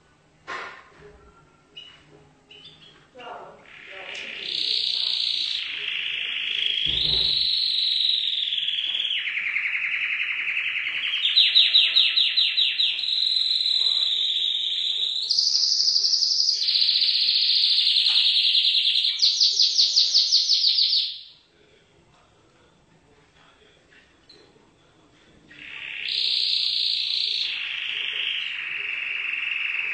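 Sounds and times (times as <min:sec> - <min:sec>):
canary singing trills: 0:01.4 - 0:21.4, 0:25.5 - 0:29.9.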